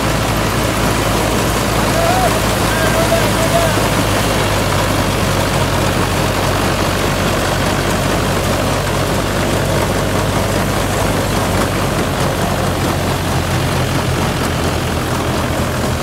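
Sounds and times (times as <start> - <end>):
reaper machinery clatter: 0.0 - 16.0
tractor diesel engine running: 0.0 - 16.0.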